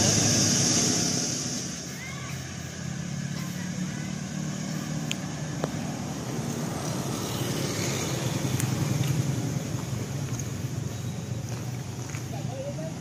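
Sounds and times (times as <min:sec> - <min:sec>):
truck diesel engine low drone: 0:00.0 - 0:13.0.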